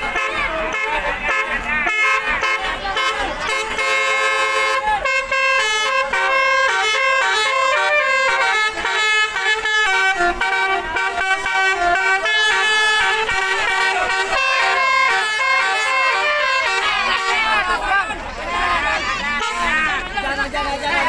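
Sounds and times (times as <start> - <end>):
bus musical horn tune: 0.0 - 17.9, 18.6 - 20.1.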